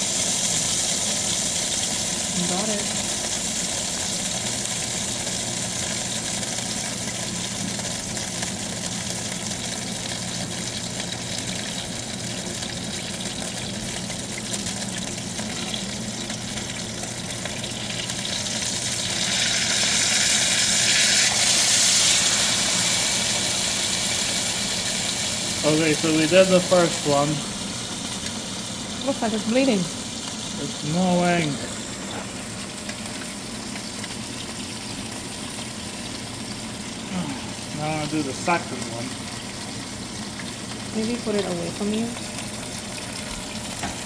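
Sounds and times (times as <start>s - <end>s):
steak sizzling in a pan: 0.0s - 44.0s.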